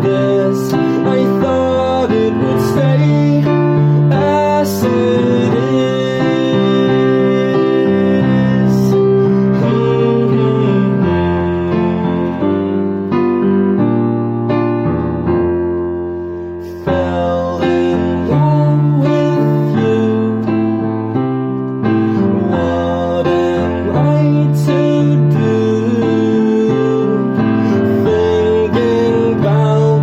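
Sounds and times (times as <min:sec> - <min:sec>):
piano song music: 0:00.0 - 0:30.0.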